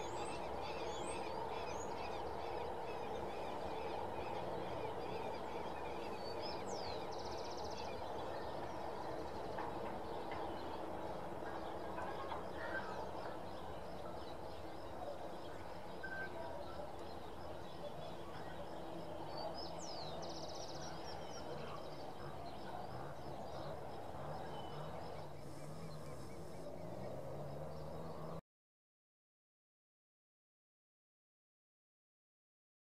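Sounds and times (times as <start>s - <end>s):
low background noise: 0.0s - 28.4s.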